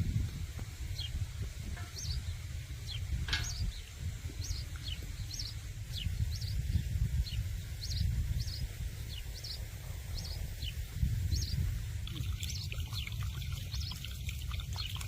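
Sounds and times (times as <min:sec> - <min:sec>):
songbird chirping: 0:01.8 - 0:15.0.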